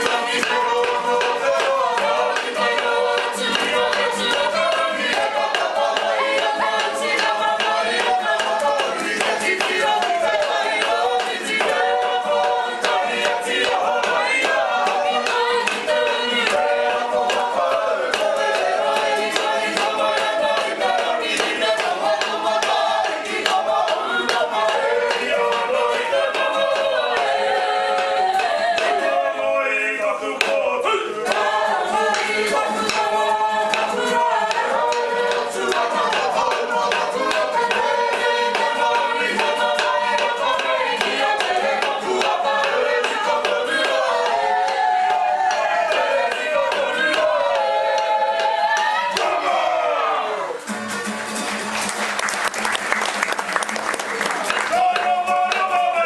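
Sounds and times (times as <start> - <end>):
people singing in chorus: 0.0 - 50.7, 54.7 - 56.0.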